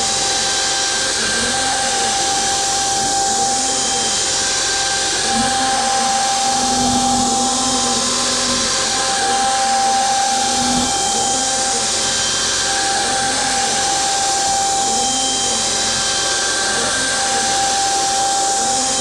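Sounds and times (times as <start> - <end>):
spindle whine: 0.0 - 19.0.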